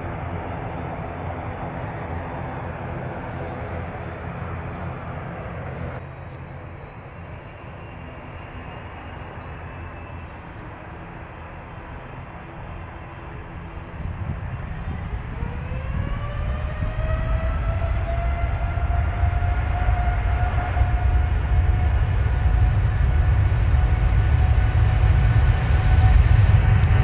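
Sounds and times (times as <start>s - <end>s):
jet engines running: 0.0s - 27.0s
jet engines spooling up: 0.0s - 27.0s.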